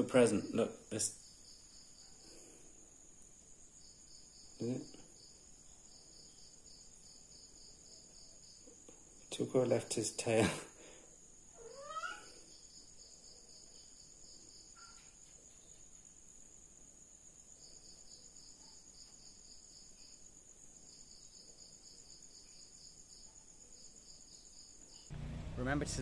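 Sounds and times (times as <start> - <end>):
high insect trill: 0.0 - 26.0
pulsing insect chirp: 0.0 - 26.0.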